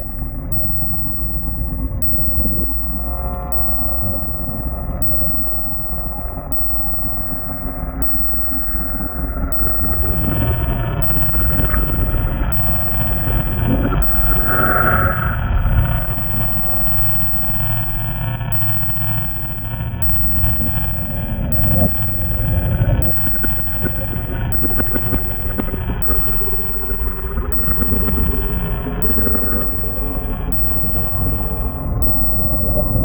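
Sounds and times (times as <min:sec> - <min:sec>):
deep rumbling drone: 0:00.0 - 0:33.0
eerie sustained tones: 0:00.0 - 0:33.0.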